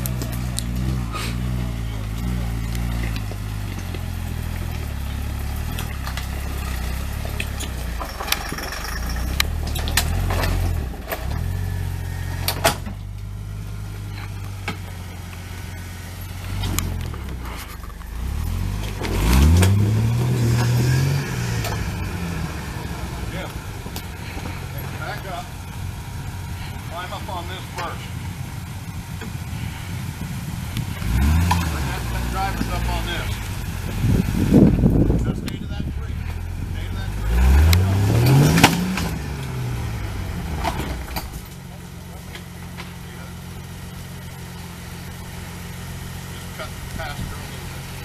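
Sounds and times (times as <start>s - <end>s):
car engine running and revving: 0.0s - 48.0s.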